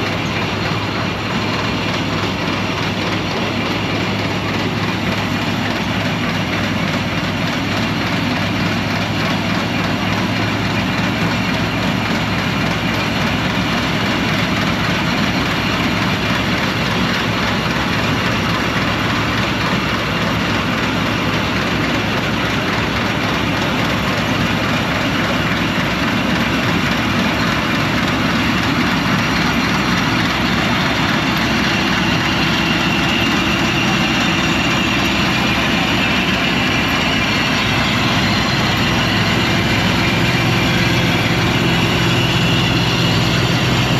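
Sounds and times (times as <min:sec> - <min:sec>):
combine harvester engine running: 0:00.0 - 0:43.9
high machine whine: 0:00.0 - 0:43.9.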